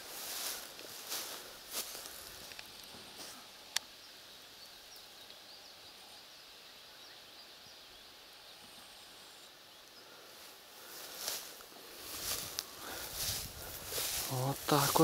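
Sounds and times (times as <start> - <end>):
leaves and grass rustling: 0.0 - 15.0
small birds chirping: 0.0 - 15.0.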